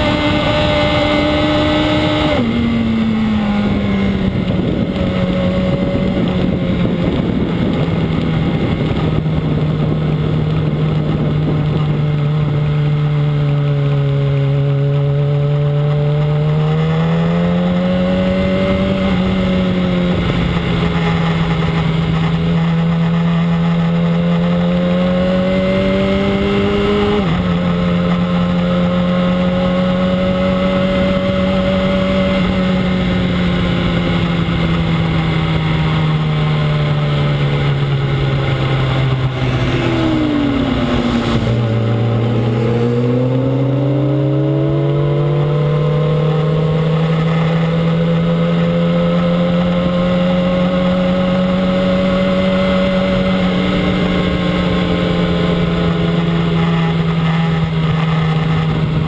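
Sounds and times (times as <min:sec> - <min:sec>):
motorcycle engine running: 0:00.0 - 0:59.0
wind rush over microphone: 0:00.0 - 0:59.0.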